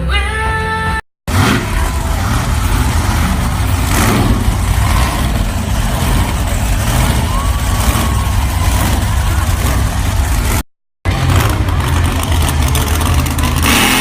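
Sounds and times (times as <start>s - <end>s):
monster truck engine rumbling: 0.0s - 14.0s
exhaust roar: 1.3s - 14.0s.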